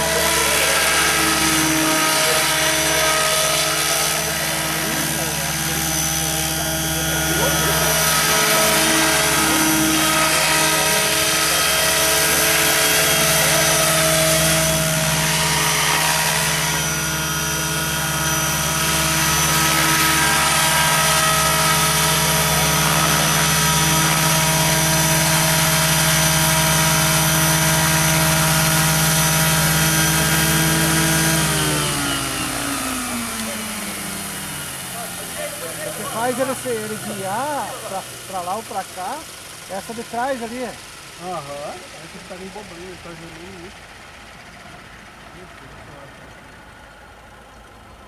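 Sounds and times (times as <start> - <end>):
model helicopter whine: 0.0 - 48.0.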